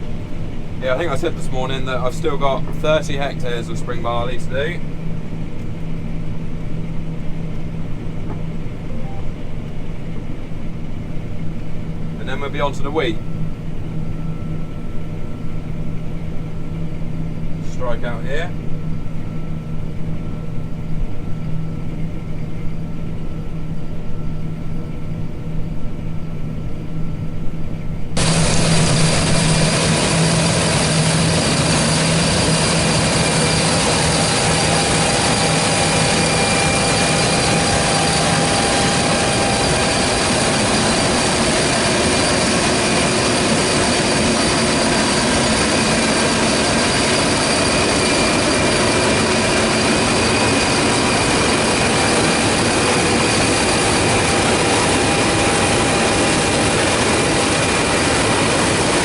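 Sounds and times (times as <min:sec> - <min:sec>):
combine harvester running: 0:00.0 - 0:24.1, 0:24.9 - 0:59.0
faint machine whines: 0:00.0 - 0:59.0
low hum: 0:00.0 - 0:59.0.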